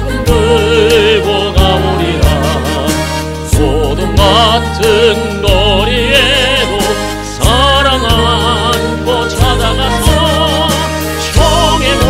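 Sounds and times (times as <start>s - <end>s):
instrumental accompaniment: 0.0s - 12.0s
man singing a hymn: 0.3s - 12.0s.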